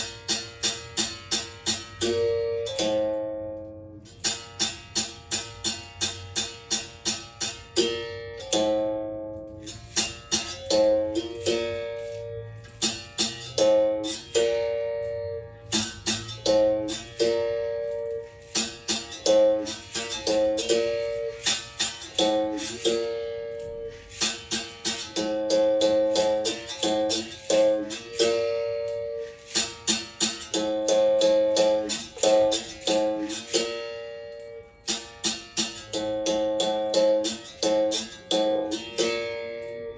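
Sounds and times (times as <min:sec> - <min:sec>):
berimbau struck with stick: 0:00.0 - 0:34.3.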